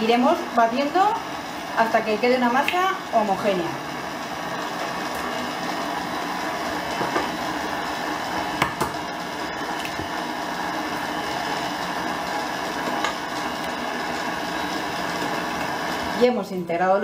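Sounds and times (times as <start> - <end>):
stand mixer running: 0.0 - 16.4.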